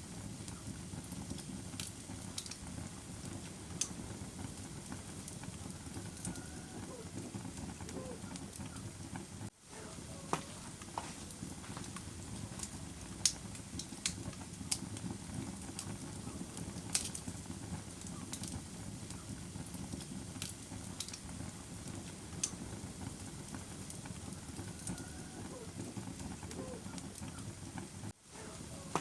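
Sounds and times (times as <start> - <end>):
fire crackling and popping: 0.0 - 29.0
fire rumbling: 0.0 - 29.0.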